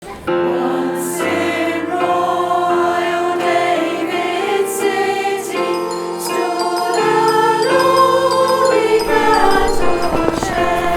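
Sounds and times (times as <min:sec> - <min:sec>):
women's choir singing: 0:00.0 - 0:10.9.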